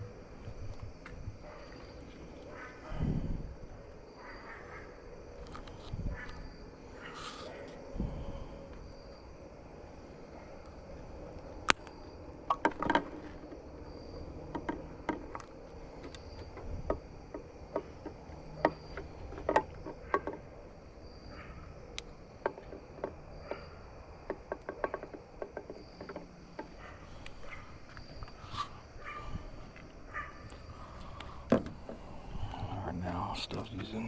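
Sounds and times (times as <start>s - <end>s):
cricket chirp: 0.0s - 34.0s.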